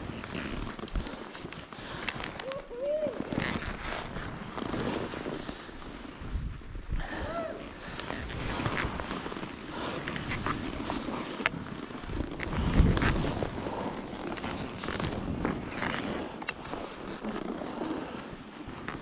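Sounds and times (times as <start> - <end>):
ski gear clicks: 0.0 - 6.3, 7.8 - 19.0
skis rushing through powder snow: 0.0 - 19.0.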